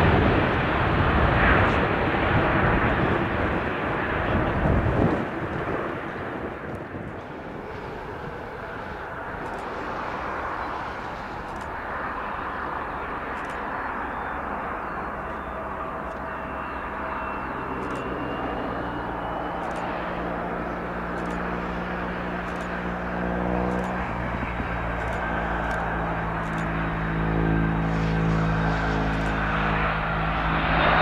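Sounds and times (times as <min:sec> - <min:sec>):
jet engine rushing: 0:00.0 - 0:31.0.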